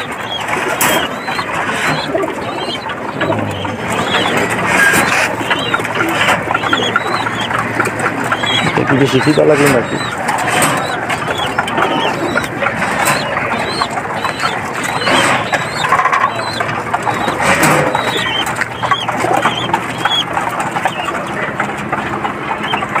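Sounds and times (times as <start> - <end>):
birds chirping: 0.0 - 23.0
birds rustling and clicking: 0.0 - 23.0.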